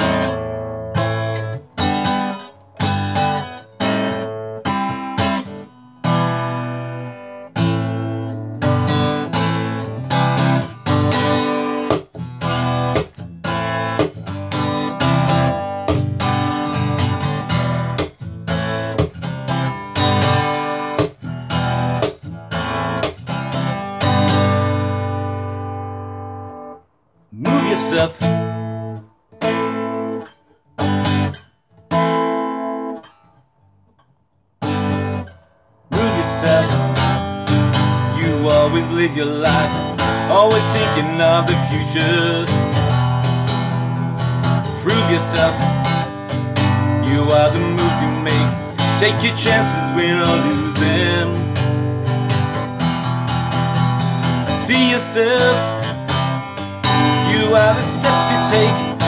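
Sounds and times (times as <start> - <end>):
acoustic guitar strumming chords: 0.0 - 33.8, 34.6 - 59.0.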